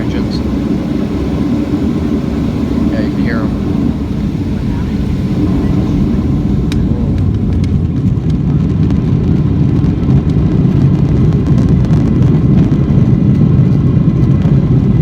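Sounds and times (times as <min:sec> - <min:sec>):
cabin low rumble: 0:00.0 - 0:15.0
jet engines at takeoff power: 0:00.0 - 0:15.0.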